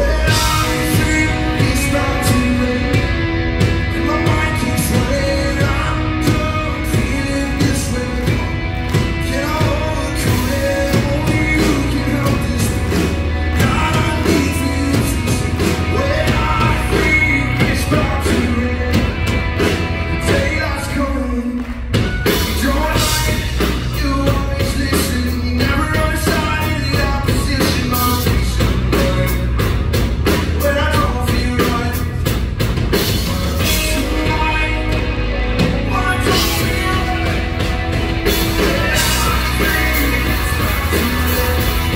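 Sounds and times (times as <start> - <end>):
drum kit: 0.0 - 41.9
electric bass: 0.0 - 41.9
man singing: 0.0 - 41.9.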